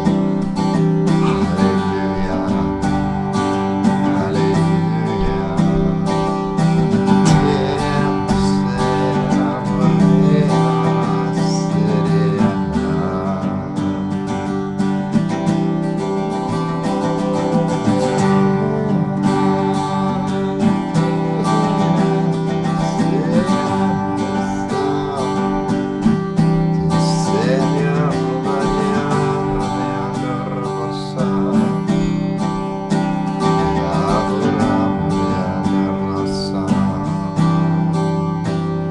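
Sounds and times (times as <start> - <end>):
faint singing: 0.0 - 14.5, 16.3 - 38.9
acoustic guitar strumming: 0.0 - 38.9.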